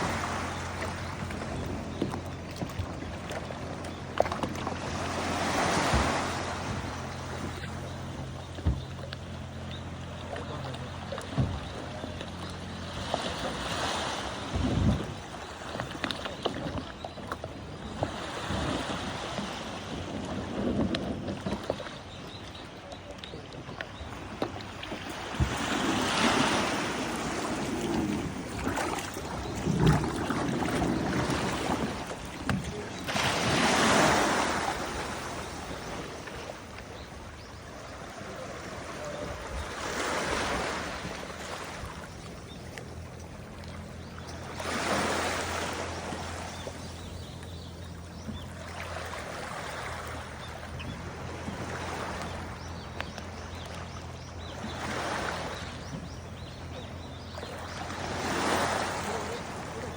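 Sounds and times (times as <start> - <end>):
sea waves washing in: 0.0 - 16.5, 24.4 - 59.9
wind: 0.0 - 59.9.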